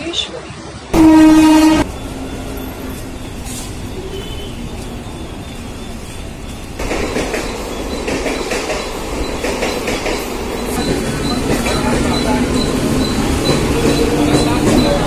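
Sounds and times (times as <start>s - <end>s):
train wheels rumbling on rails: 1.0s - 15.0s.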